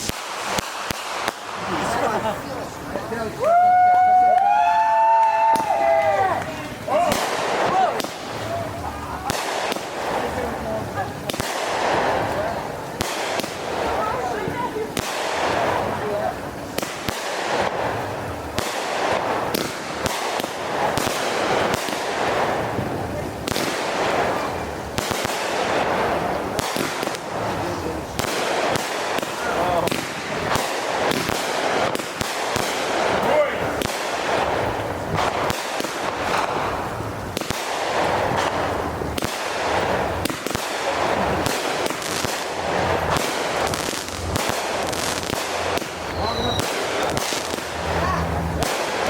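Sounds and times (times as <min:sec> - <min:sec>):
continuous noisy rush: 0:00.0 - 0:49.0
fireworks banging: 0:00.0 - 0:49.0
fireworks crackling hiss: 0:00.0 - 0:49.0.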